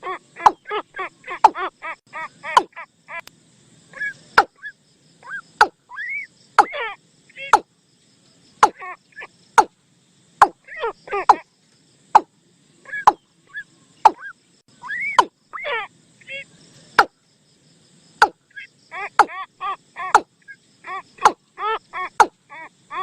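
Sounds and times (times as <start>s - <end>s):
repeated bird calls: 0.0s - 17.3s, 18.0s - 23.0s.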